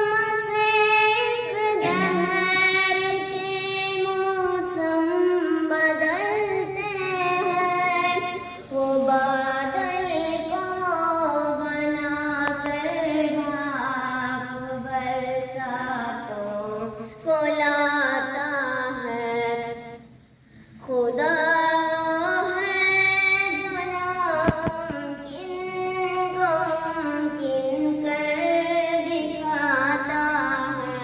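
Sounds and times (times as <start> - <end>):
high voice singing devotional song: 0.0 - 31.0.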